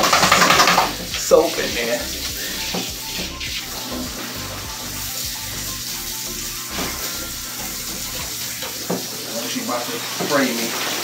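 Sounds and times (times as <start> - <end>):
shower spray hissing: 0.0 - 11.0.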